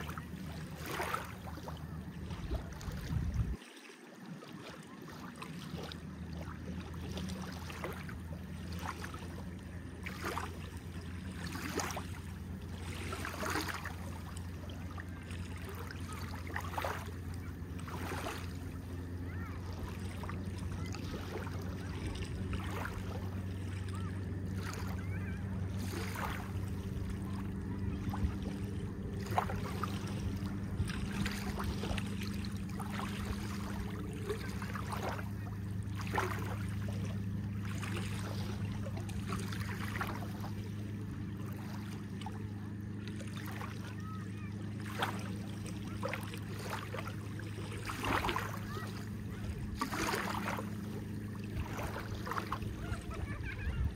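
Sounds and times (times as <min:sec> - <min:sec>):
low engine hum: 0:00.0 - 0:03.6, 0:04.2 - 0:53.9
small waves lapping at shore: 0:00.0 - 0:53.9.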